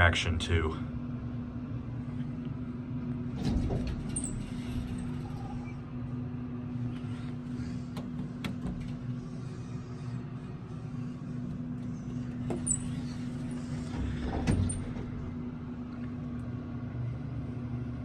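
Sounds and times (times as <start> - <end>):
elevator motor hum: 0.9 - 18.0.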